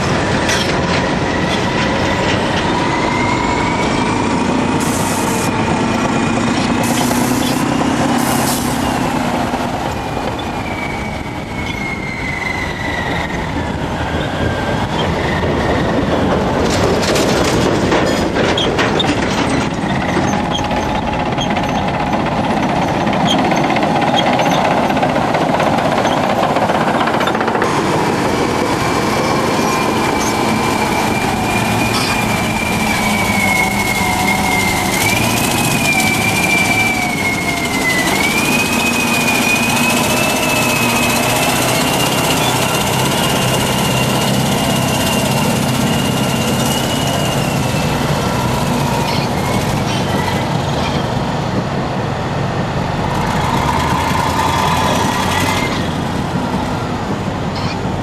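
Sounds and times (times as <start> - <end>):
high squealing whine: 0.0 - 16.3, 18.1 - 51.3, 53.1 - 58.0
diesel engines running: 0.0 - 58.0.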